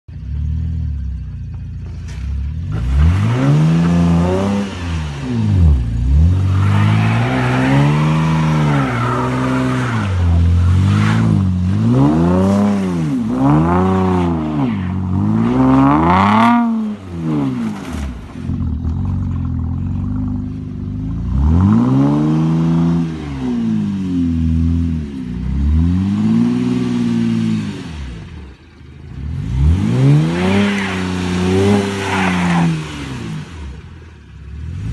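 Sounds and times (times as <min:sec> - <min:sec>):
car engine revving and idling: 0:00.1 - 0:34.9.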